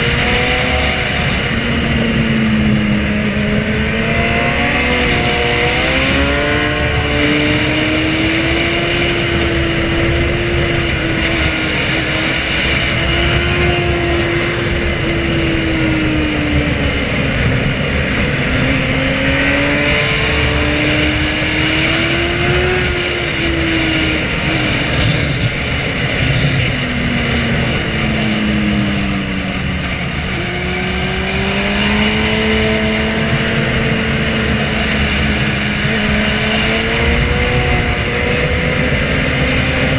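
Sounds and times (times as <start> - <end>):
motorcycle engines revving: 0.0 - 39.9
steady rushing noise: 0.0 - 39.9.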